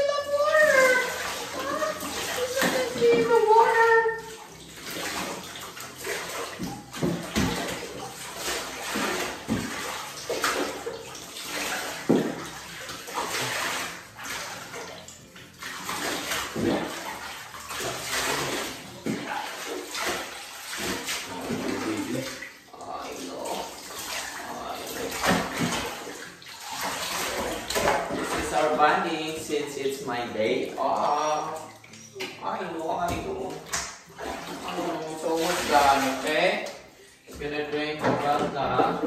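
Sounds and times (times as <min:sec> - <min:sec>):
water poured and splashing: 0:00.0 - 0:39.0.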